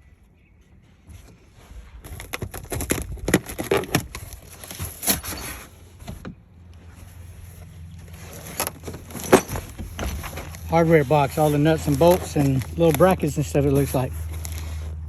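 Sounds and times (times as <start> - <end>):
cardboard packaging rustling: 1.2 - 6.2, 6.8 - 15.0.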